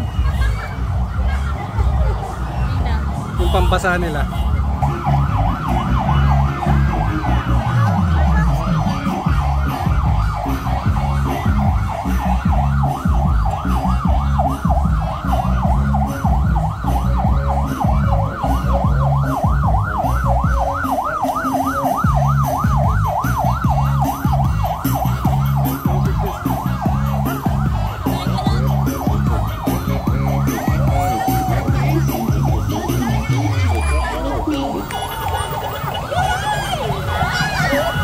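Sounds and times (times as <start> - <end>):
siren yelping: 4.7 - 38.0.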